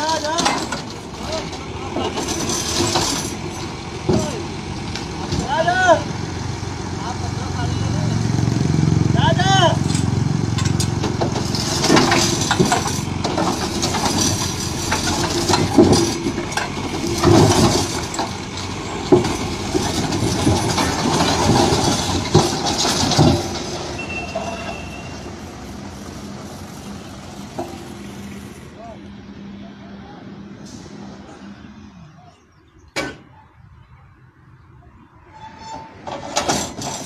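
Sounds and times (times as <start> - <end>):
concrete pipes rolling: 0.0 - 28.8, 35.3 - 37.0.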